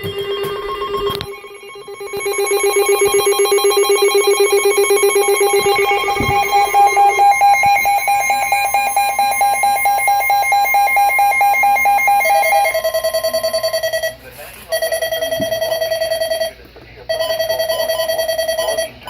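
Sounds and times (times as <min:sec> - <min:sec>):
weather radio alarm beeps: 0:00.0 - 0:19.0.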